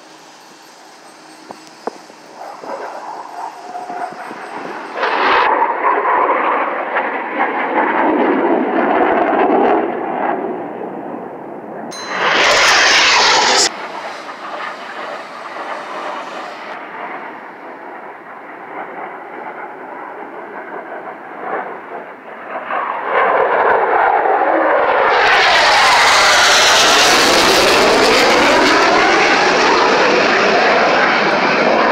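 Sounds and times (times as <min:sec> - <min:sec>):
jet aircraft passing: 0:00.0 - 0:31.9.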